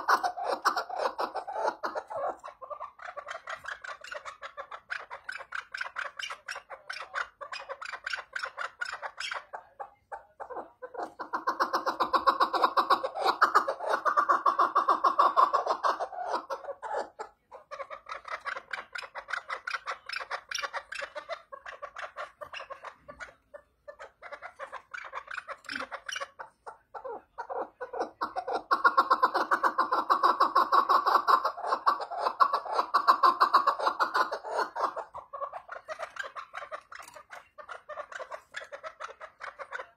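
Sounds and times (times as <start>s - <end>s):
partridge clucking: 0.0s - 39.9s.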